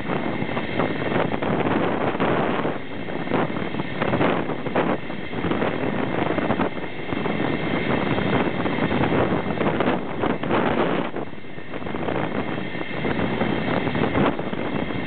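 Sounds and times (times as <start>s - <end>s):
train running on track: 0.0s - 15.0s
wind buffeting microphone: 0.0s - 15.0s.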